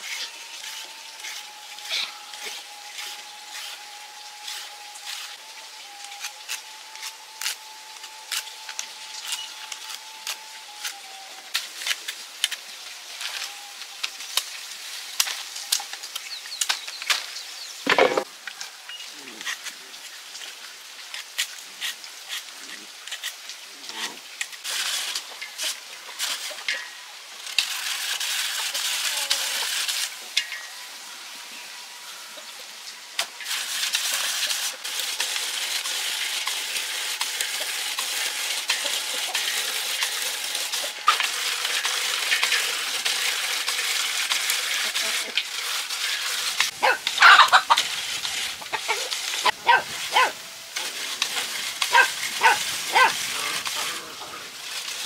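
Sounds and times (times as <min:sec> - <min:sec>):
steady hissing noise: 0:00.0 - 0:55.0.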